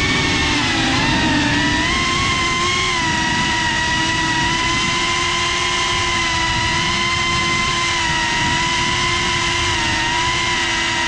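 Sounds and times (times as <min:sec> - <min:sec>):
drone motors whining: 0:00.0 - 0:11.0
propeller wash rushing: 0:00.0 - 0:11.0.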